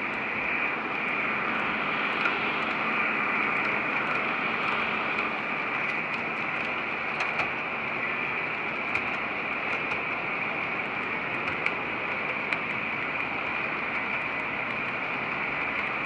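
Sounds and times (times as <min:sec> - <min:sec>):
model train whirring: 0:00.0 - 0:16.0.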